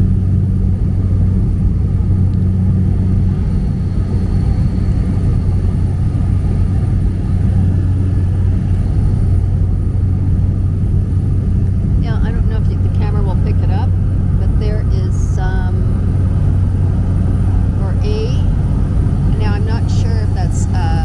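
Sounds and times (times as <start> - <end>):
propeller plane engine droning: 0.0 - 21.0.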